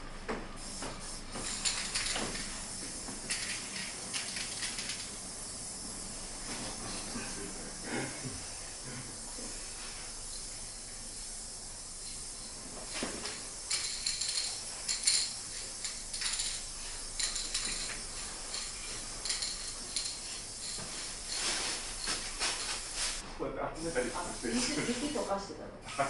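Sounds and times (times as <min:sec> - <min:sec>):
spray paint can hissing: 0:00.6 - 0:07.3, 0:08.3 - 0:23.2, 0:23.8 - 0:25.3.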